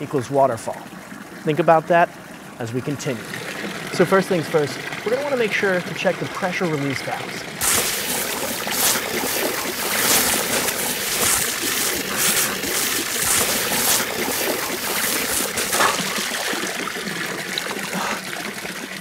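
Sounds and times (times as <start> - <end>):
water jet spraying and splashing: 3.0 - 19.0.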